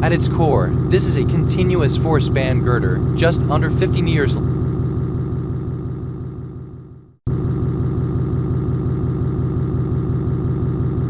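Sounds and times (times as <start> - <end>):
pulsing electronic drone: 0.0 - 11.0.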